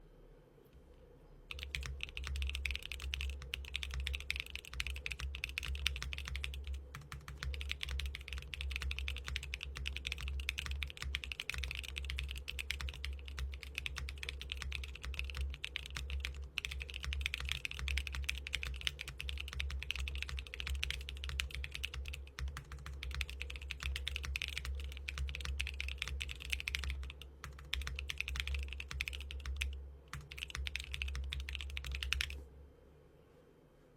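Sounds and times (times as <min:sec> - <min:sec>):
fast mechanical keyboard typing: 0:01.5 - 0:32.4.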